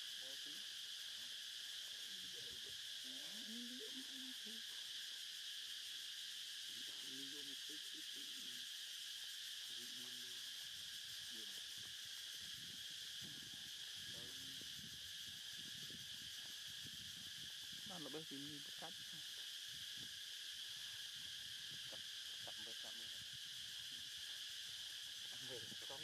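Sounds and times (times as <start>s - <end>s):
insects calling in chorus: 0.0s - 26.0s.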